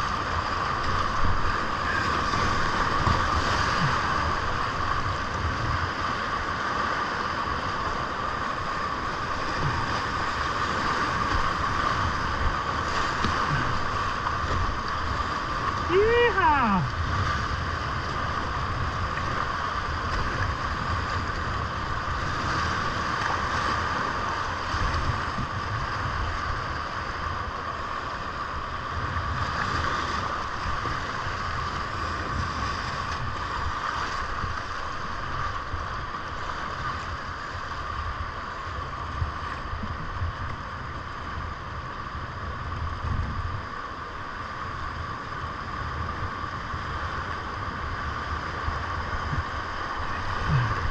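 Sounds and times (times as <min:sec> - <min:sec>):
whitewater rushing: 0:00.0 - 0:40.2, 0:43.8 - 0:50.9.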